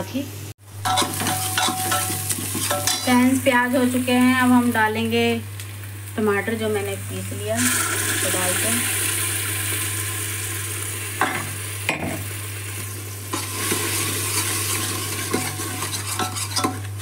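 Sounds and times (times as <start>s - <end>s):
tomato puree sizzling in hot oil: 0.6s - 17.0s.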